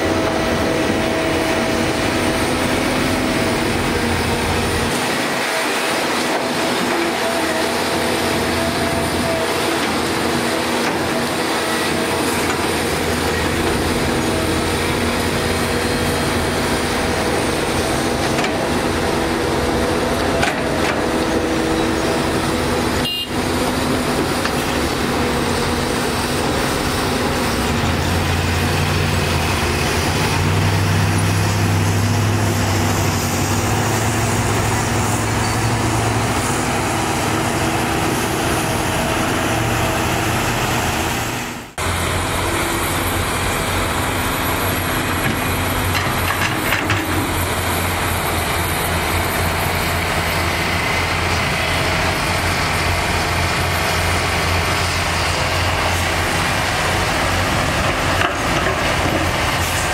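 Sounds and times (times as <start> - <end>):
dump truck diesel engines: 0.0 - 59.9
excavator diesel engine running: 0.0 - 59.9.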